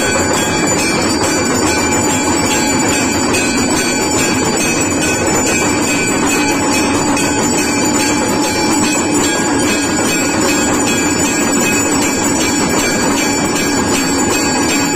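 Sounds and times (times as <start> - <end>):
temple bells ringing rapidly: 0.0 - 14.9.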